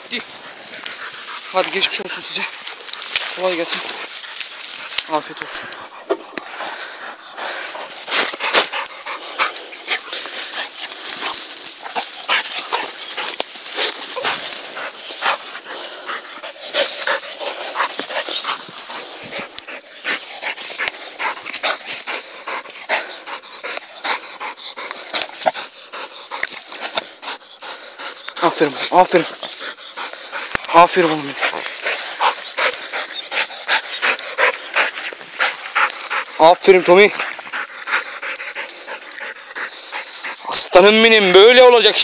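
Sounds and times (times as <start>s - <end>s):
dogs tearing and chewing carcass: 0.0s - 42.0s.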